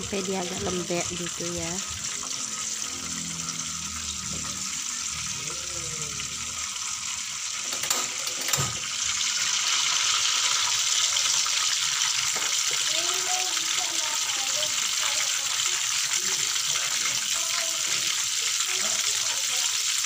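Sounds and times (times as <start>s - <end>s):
tomato sizzling in hot oil: 0.0s - 20.0s.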